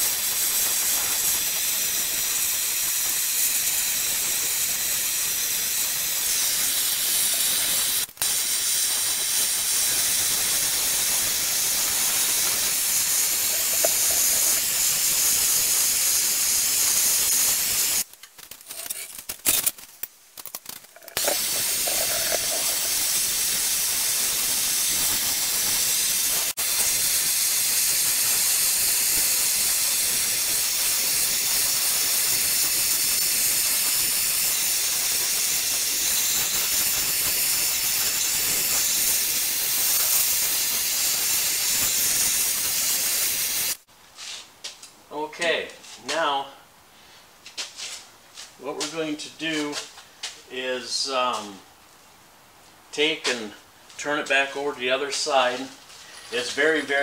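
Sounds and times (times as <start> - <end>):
gas torch hissing: 0.0 - 20.0, 20.6 - 43.9, 54.3 - 57.0.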